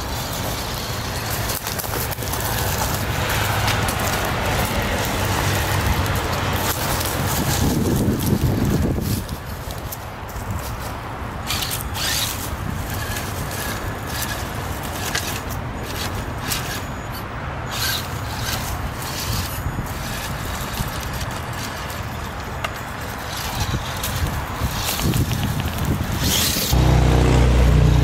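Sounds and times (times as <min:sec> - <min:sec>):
dry leaves crunching: 0:00.0 - 0:17.1, 0:17.7 - 0:27.9
toy car motor rumble: 0:00.0 - 0:27.0
tires scraping on bark: 0:00.0 - 0:28.0.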